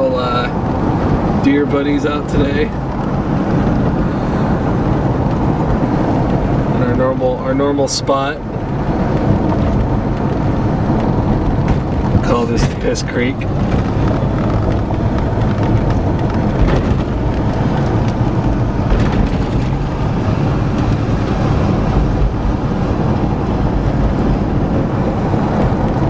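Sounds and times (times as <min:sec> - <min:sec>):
car tyres and engine rumble: 0:00.0 - 0:26.0.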